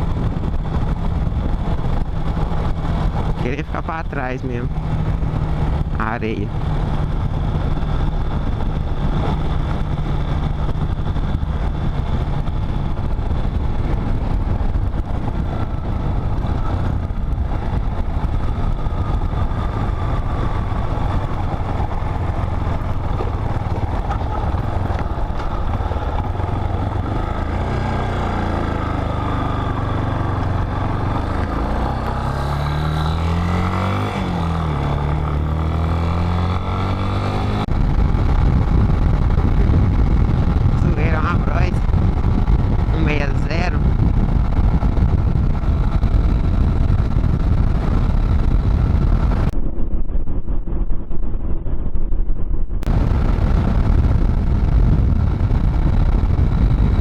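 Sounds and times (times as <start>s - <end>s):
motorcycle engine revving: 0.0s - 49.6s, 52.8s - 57.0s
wind rush on microphone: 0.0s - 57.0s.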